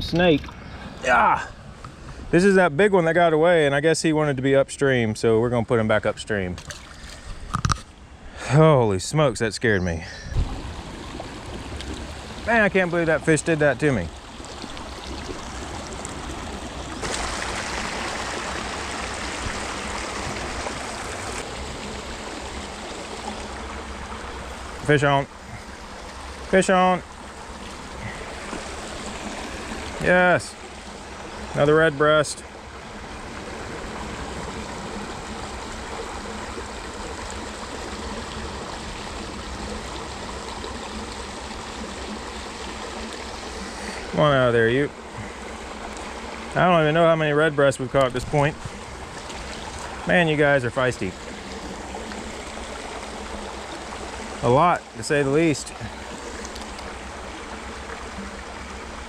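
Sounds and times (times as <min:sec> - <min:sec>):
creek water rushing: 0:00.0 - 0:04.3, 0:06.7 - 0:59.0.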